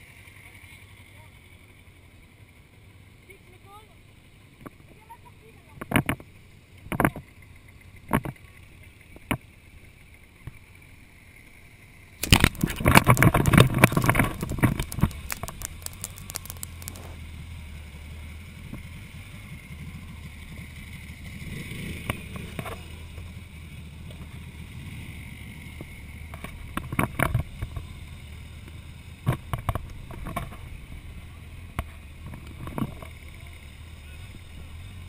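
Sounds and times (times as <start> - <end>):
motorcycle engine at low revs: 0.0 - 12.2, 17.0 - 35.0.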